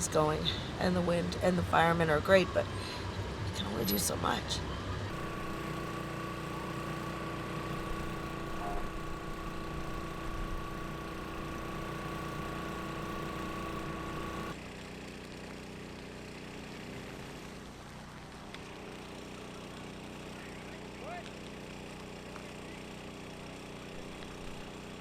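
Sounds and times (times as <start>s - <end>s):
constant whine: 0.0s - 25.0s
engine hum: 0.0s - 25.0s.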